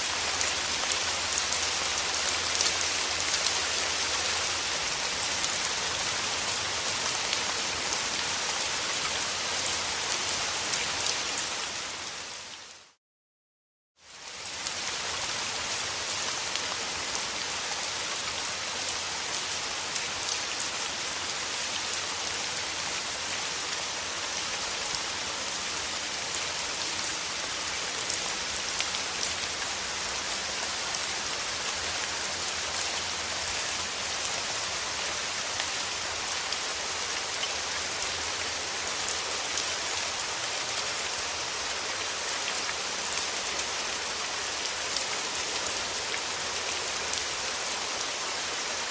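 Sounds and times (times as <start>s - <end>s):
steady rain falling: 0.0s - 13.0s, 14.0s - 48.9s.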